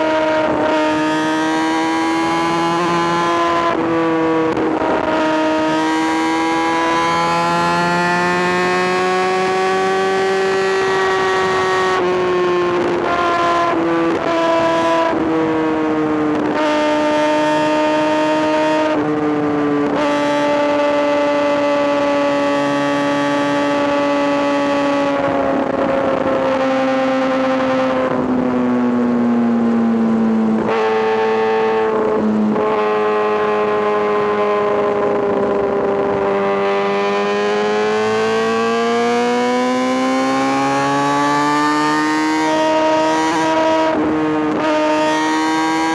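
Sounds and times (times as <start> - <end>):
motorcycle engine revving high: 0.0 - 45.9.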